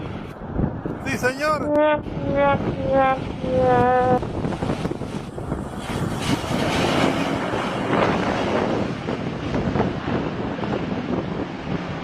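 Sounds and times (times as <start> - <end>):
airplane engine rumble: 0.0 - 12.0.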